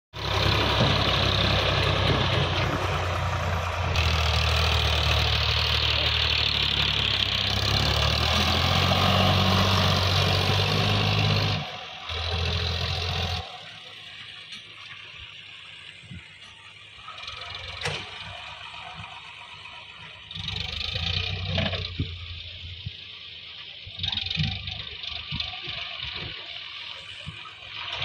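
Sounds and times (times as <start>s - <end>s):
tractor diesel engine running: 0.1s - 28.0s.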